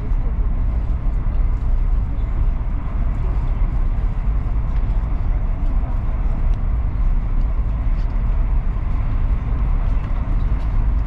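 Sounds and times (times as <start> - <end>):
train running noise inside carriage: 0.0 - 11.0.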